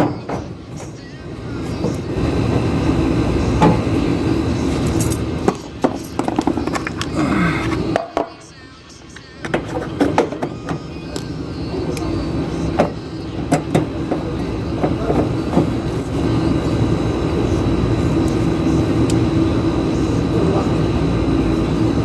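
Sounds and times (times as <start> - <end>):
air conditioner unit humming: 0.0 - 22.0.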